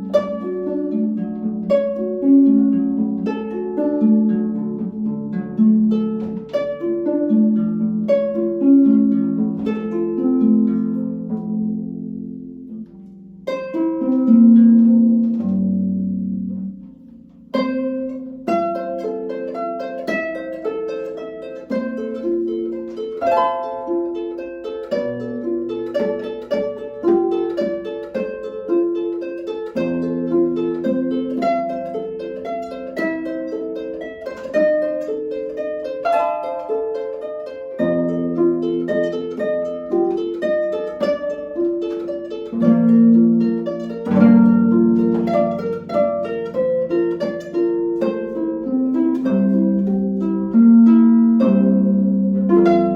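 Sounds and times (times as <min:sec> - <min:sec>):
harp playing plucked notes: 0:00.0 - 0:52.9.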